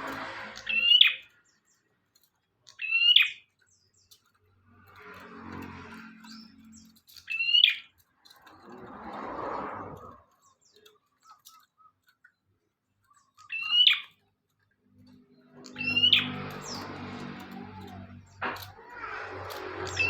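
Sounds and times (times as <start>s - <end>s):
bird chirping: 0.1s - 9.0s, 9.8s - 20.0s.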